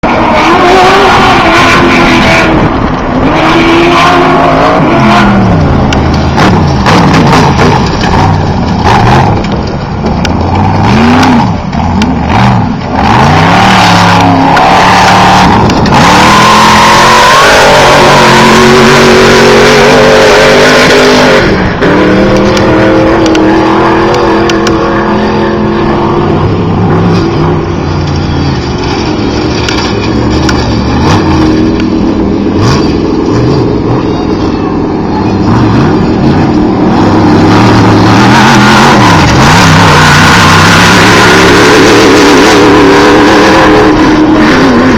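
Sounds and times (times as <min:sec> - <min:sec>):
race buggy engines revving: 0:00.0 - 0:44.9.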